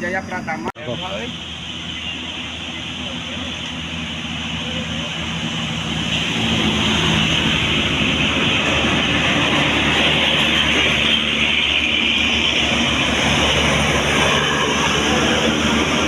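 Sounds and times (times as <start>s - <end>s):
bus engine rumble: 0.0s - 16.0s
tyre and road noise: 0.0s - 16.0s.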